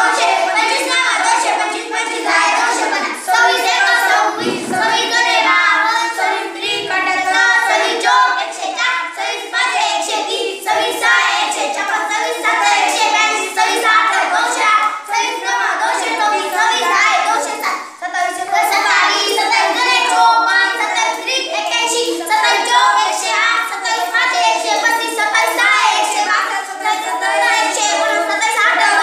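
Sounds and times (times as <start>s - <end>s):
children chanting together: 0.0s - 29.0s.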